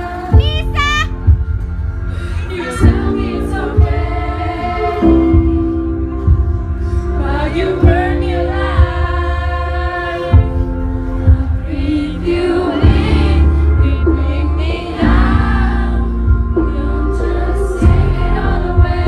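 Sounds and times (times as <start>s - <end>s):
low bass with beat: 0.3s - 9.7s, 10.3s - 19.0s
female vocal group singing: 2.1s - 19.0s.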